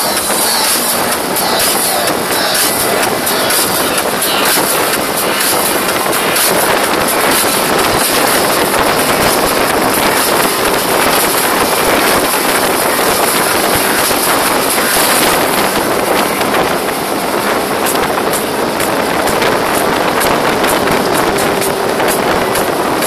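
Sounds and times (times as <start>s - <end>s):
outboard motor running: 0.0s - 23.0s
rushing water: 0.0s - 23.0s
wind buffeting microphone: 0.0s - 23.0s.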